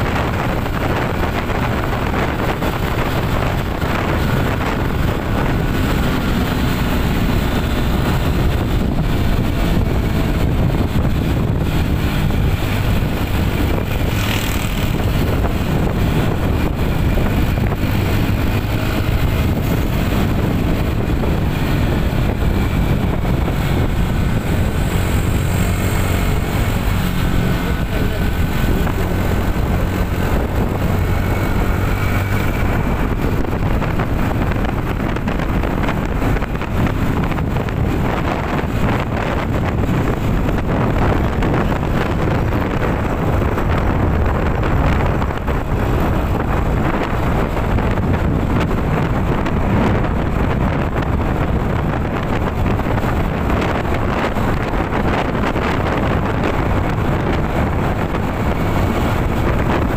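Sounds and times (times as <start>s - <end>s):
vehicle engine and tyres rumbling: 0.0s - 59.9s
wind rushing over microphone: 0.0s - 59.9s.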